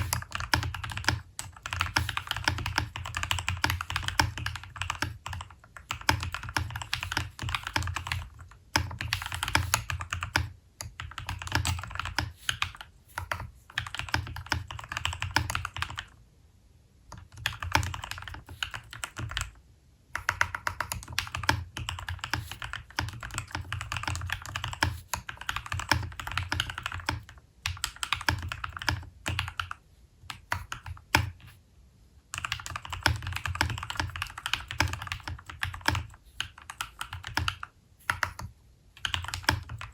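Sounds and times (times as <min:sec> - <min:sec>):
typing on mechanical keyboard: 0:00.0 - 0:16.2, 0:17.1 - 0:31.6, 0:32.3 - 0:39.9.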